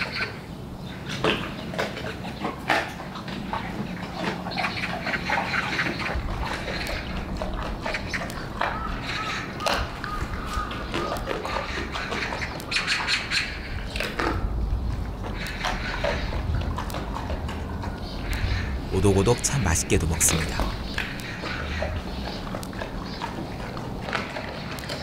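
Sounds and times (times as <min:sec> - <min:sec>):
bear chewing and crunching: 0:00.9 - 0:25.0.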